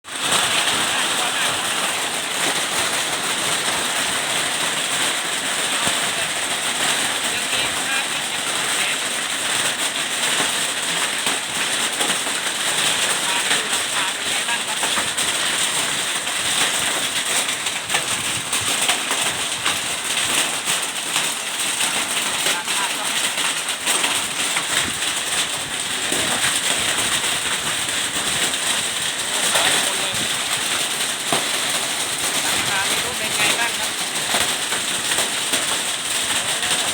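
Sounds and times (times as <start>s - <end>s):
hailstones clattering: 0.0s - 36.9s
rain hiss: 0.0s - 36.9s.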